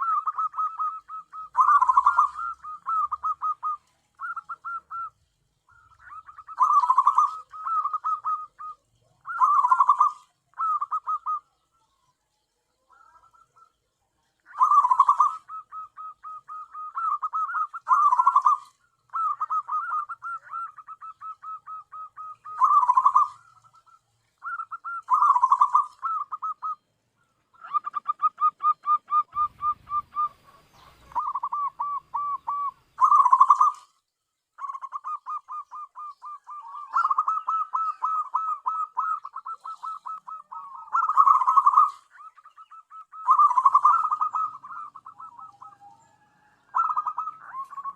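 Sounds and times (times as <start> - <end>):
dove cooing: 0.0 - 12.0, 12.7 - 34.0, 34.6 - 47.9.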